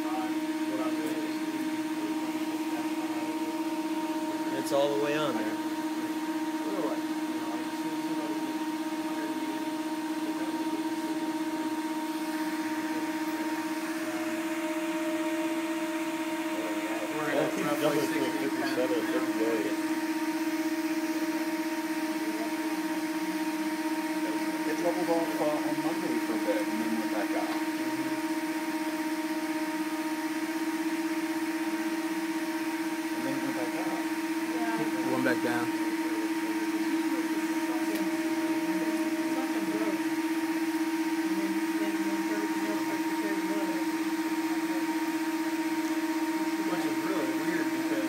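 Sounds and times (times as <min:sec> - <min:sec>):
testing machine humming: 0:00.0 - 0:48.0.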